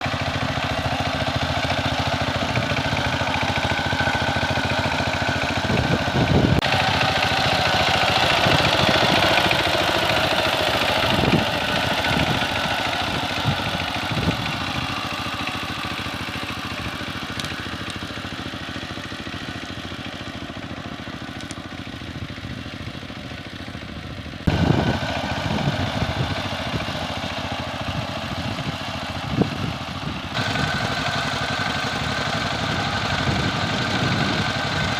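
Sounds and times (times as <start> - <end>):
tiller engine knocking clatter: 0.0 - 34.9.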